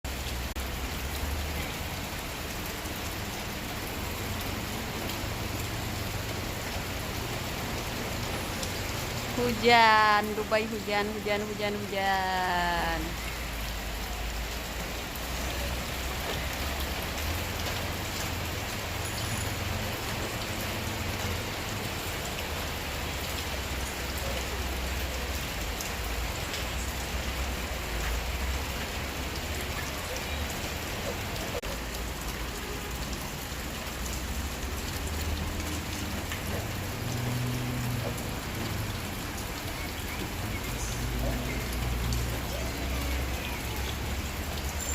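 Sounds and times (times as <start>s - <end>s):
steady rain patter: 0.1s - 44.9s.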